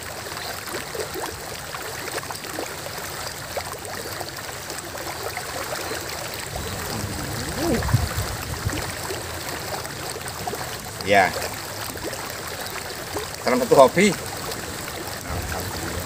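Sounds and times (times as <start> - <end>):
stream water running: 0.0 - 16.0.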